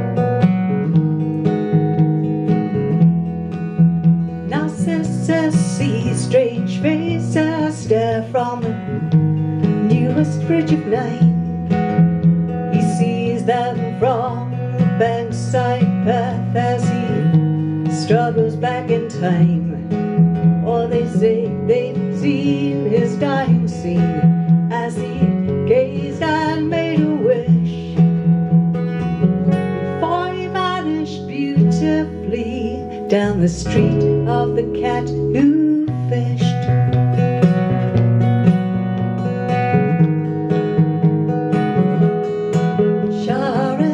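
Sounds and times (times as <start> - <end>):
acoustic guitar strumming: 0.0 - 43.9
electric bass: 0.0 - 43.9.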